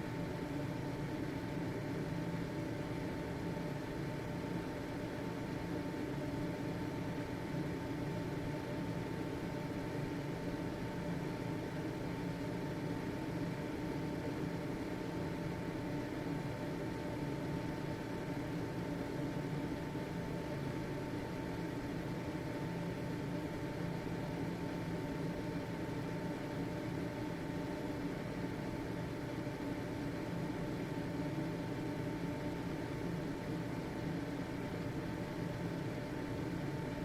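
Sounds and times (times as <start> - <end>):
exhaust fan humming: 0.0 - 37.0.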